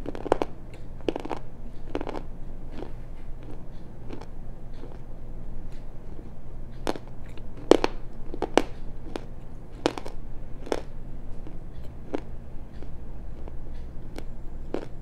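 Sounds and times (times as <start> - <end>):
crunchy chewing: 0.0 - 5.1, 5.7 - 15.0
faint low hum: 0.0 - 15.0.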